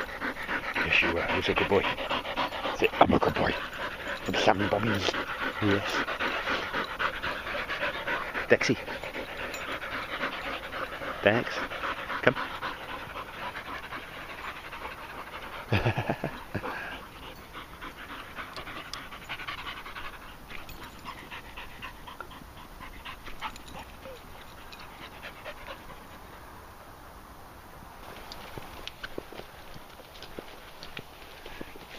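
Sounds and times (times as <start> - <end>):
dogs panting: 0.0 - 26.7, 28.0 - 31.9.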